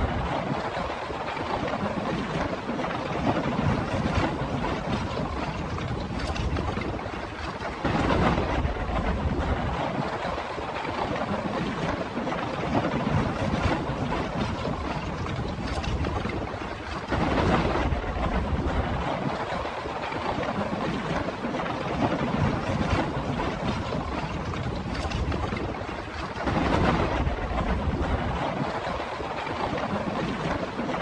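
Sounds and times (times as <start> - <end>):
rushing wind and water: 0.0 - 31.0
wind buffeting microphone: 0.0 - 31.0.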